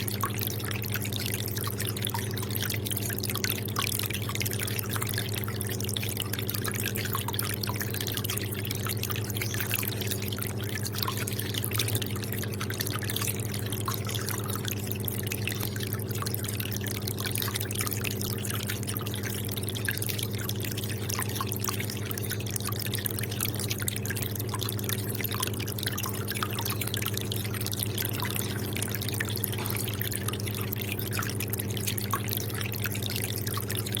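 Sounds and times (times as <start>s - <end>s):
steady low hum: 0.0s - 34.0s
water dripping and trickling: 0.0s - 34.0s.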